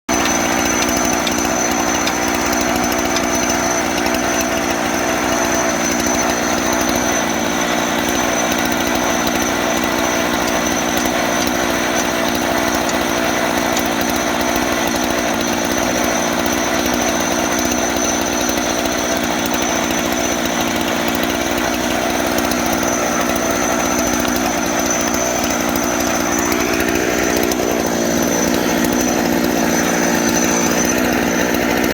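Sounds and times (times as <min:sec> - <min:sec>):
engine-driven sawmill cutting: 0:00.0 - 0:31.9.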